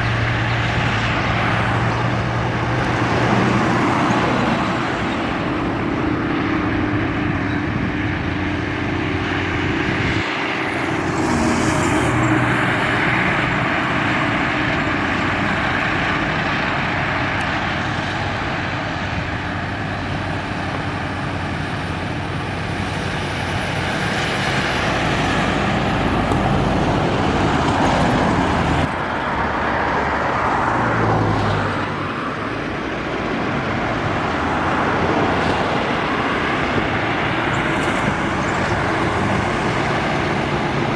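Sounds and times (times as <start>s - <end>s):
highway traffic passing: 0.0s - 40.9s.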